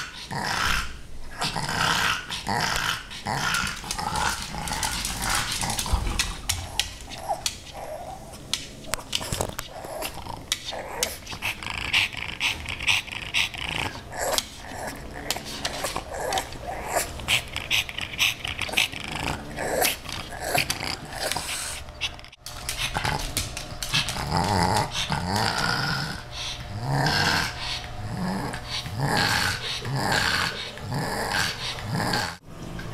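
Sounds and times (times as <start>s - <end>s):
dog growly noises: 0.0s - 32.4s.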